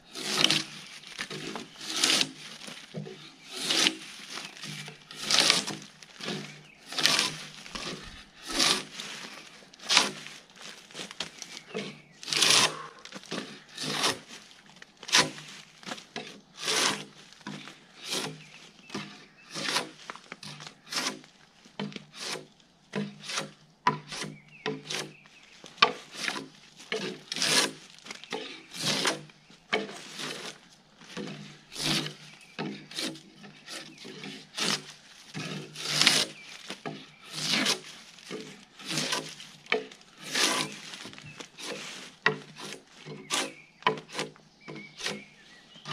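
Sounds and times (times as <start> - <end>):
drawknife scraping bark off log: 0.1 - 10.3, 10.9 - 14.4, 15.0 - 25.2, 25.8 - 45.9.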